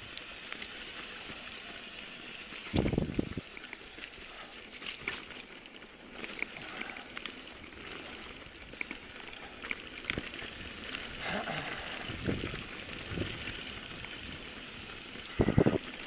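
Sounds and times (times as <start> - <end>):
bike clicks and rattles: 0.0 - 16.0
tyres crackling over stones: 0.0 - 16.0.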